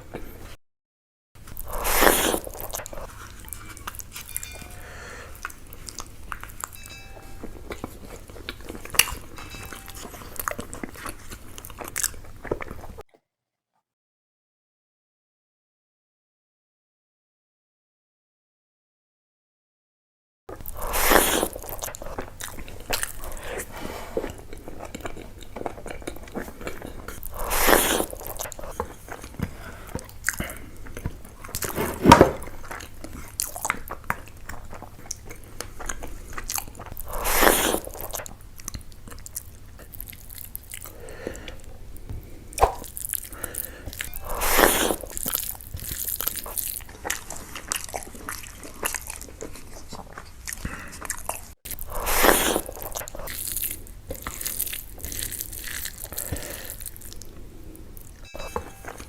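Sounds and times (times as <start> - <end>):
close-miked chewing and crunching: 1.4 - 13.0, 20.5 - 58.2.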